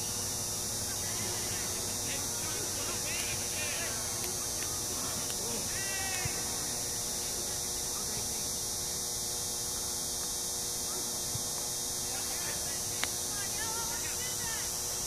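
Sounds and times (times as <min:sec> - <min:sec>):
steady hum and hiss: 0:00.0 - 0:15.0
faint distant voices: 0:00.7 - 0:08.7, 0:10.6 - 0:14.8.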